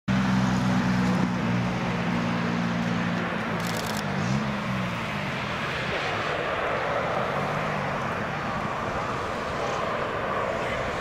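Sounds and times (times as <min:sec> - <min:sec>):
jet airliner roar: 0:00.1 - 0:11.0.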